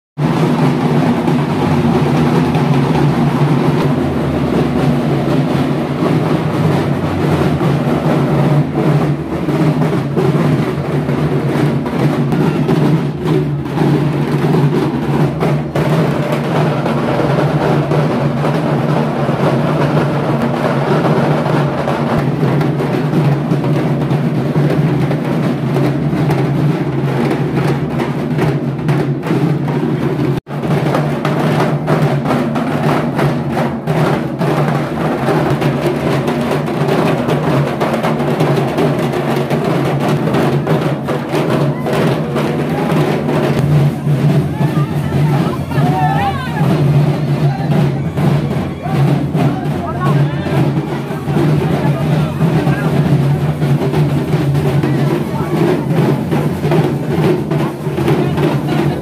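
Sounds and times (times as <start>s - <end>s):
barrel drums beating fast: 0.2s - 59.0s.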